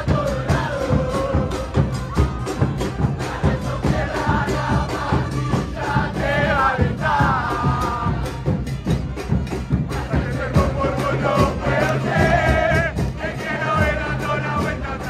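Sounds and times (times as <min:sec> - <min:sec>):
fans singing a chant: 0:00.0 - 0:08.8, 0:09.7 - 0:15.0
bass drums beating: 0:00.0 - 0:15.0.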